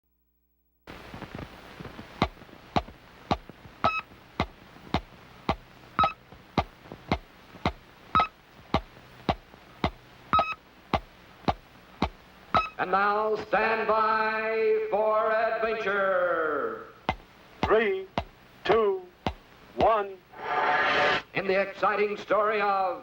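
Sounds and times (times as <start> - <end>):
film hiss: 0.1 - 23.0.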